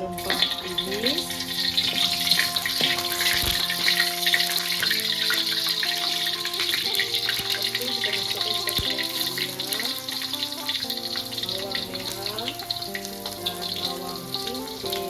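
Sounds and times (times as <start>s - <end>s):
background music with held notes: 0.0s - 15.0s
spice paste sizzling in hot oil: 0.0s - 15.0s.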